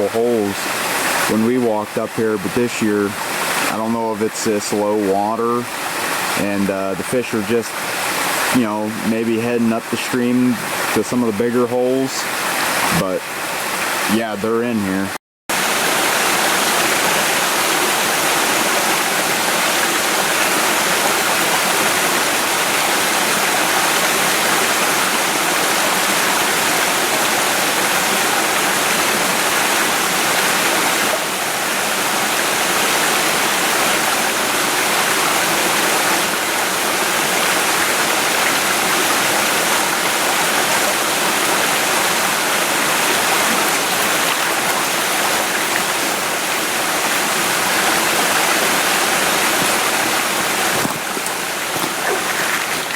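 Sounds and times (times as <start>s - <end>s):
stream water flowing: 0.0s - 52.9s.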